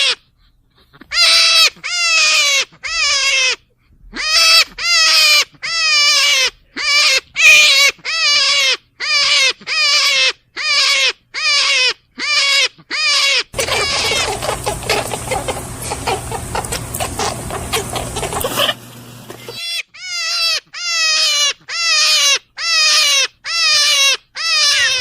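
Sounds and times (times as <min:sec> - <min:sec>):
animal calling: 0:00.0 - 0:25.0.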